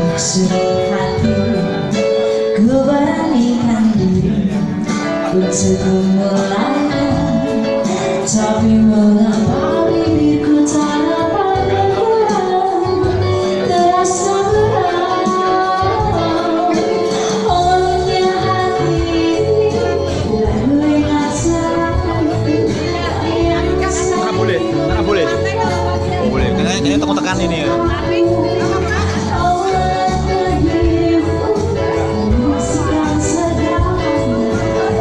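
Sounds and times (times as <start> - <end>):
woman singing: 0.0 - 35.0
instruments and light percussion: 0.2 - 35.0.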